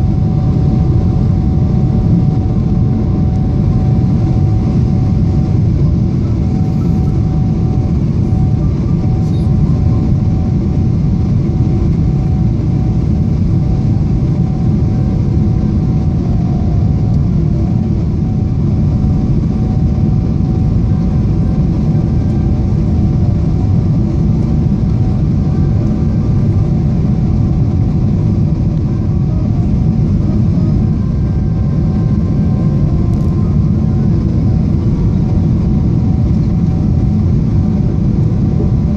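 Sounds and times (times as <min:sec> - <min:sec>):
jet engines rushing: 0:00.0 - 0:38.9.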